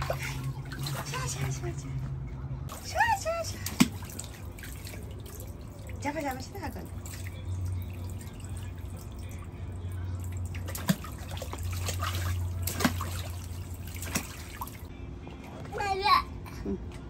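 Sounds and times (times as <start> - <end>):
water splashing in paddling pool: 0.0 - 1.9, 2.7 - 14.9.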